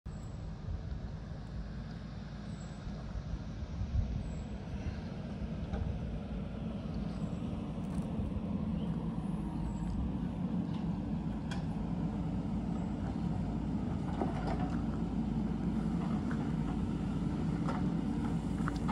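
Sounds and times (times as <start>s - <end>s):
diesel engine running: 0.1s - 18.9s.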